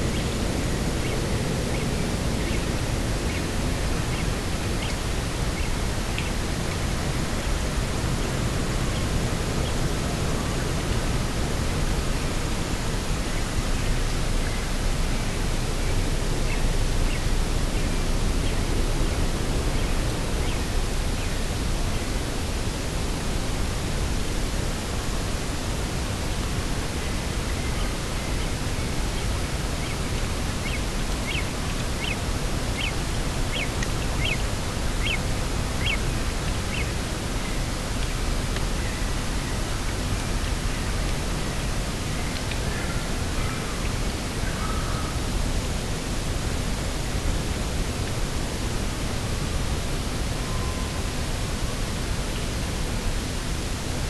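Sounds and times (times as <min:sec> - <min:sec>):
coastal wind: 0:00.0 - 0:54.0
sea: 0:00.0 - 0:54.0.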